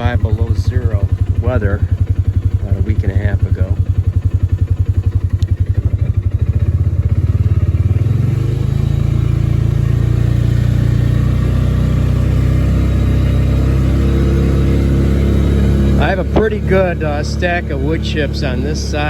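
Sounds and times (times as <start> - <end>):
small vehicle engine running: 0.0 - 19.0.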